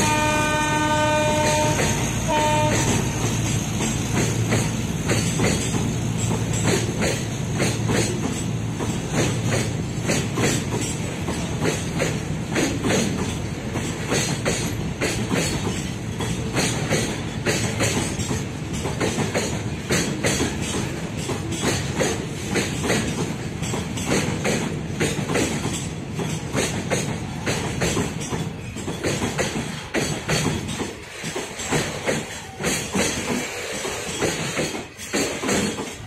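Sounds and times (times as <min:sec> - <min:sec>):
wheels clacking over rail joints: 0:00.0 - 0:36.0.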